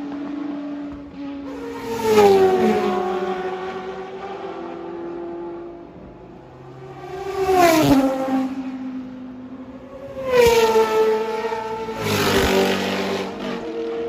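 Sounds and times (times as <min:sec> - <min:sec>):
race car engine passing: 0:00.1 - 0:14.0.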